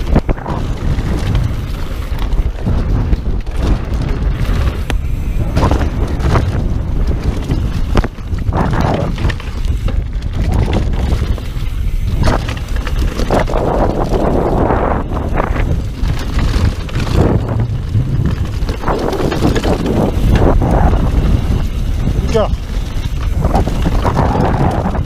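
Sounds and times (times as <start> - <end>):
bike knocks and rattles: 0.0 - 25.0
tyres rumbling on dirt: 0.0 - 25.0
wind buffeting microphone: 0.0 - 25.0.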